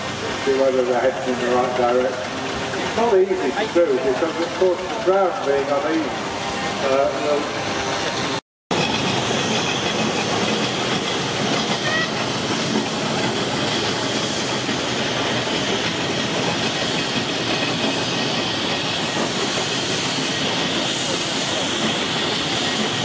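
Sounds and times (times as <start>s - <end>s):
steam engine hissing and running: 0.0s - 23.0s.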